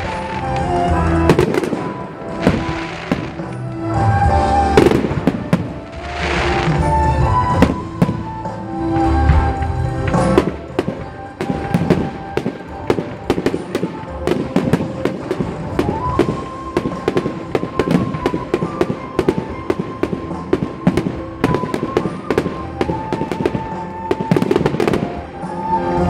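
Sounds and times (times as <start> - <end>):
firework bangs and crackles: 0.0 - 26.0
music with long held notes: 0.0 - 26.0.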